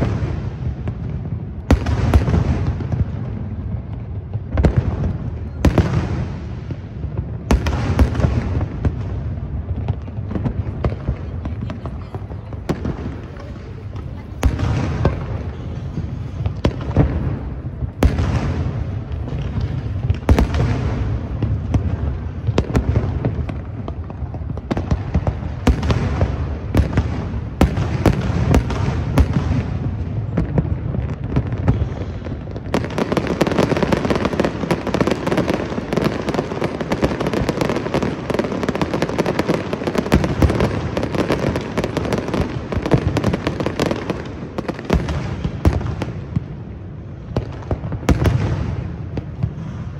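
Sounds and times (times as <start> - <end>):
fireworks bangs and booms: 0.0 - 49.9
fireworks crackling: 0.0 - 49.9.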